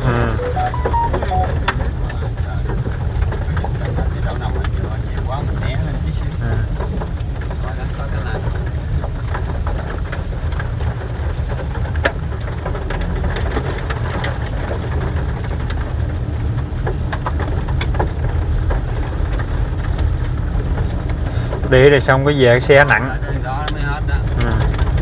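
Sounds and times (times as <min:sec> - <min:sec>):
vehicle engine and road noise: 0:01.9 - 0:25.0.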